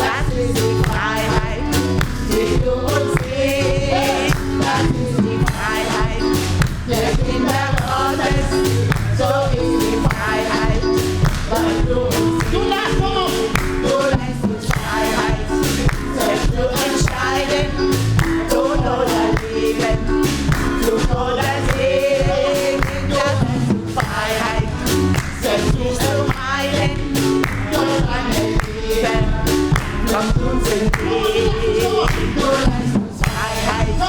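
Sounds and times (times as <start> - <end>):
drums and bass beat: 0.0 - 34.0
gospel choir singing: 0.0 - 34.0.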